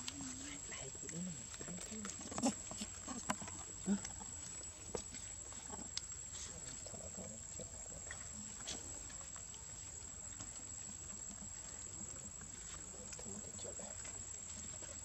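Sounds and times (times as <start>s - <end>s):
monkeys eating fruit clicks: 0.0s - 15.0s.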